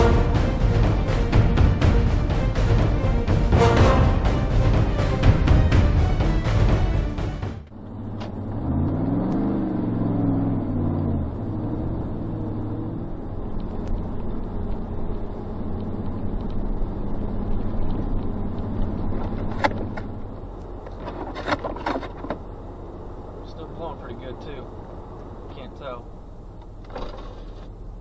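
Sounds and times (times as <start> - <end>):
vehicle engine revving: 0.0 - 26.3
driving noise inside cab: 4.2 - 28.0.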